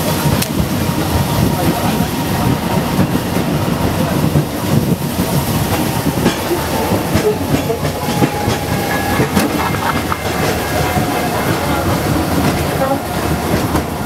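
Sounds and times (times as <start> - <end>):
funicular car rumbling on rails: 0.0 - 14.0
wheels clattering knocks: 2.4 - 14.0.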